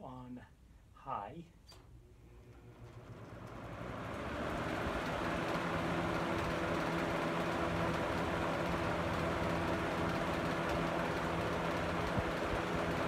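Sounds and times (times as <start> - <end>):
fan motor hum: 1.9 - 13.0
fan air rushing: 2.1 - 13.0.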